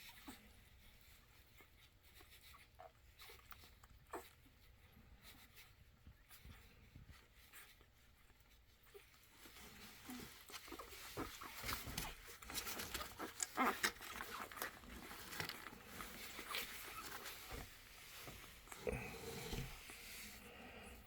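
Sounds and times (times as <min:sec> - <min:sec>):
puppies squeaking and grunting: 0:00.0 - 0:21.0
puppies sucking and smacking: 0:00.0 - 0:21.0.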